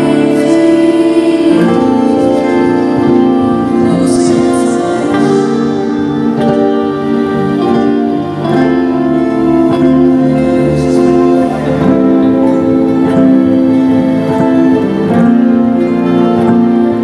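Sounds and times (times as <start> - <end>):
gospel band with guitars: 0.0 - 17.0.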